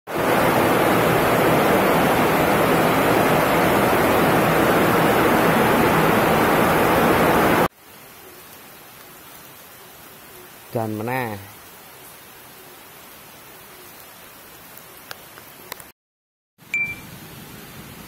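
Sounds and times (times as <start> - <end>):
heavy rain on pavement: 0.1 - 15.9.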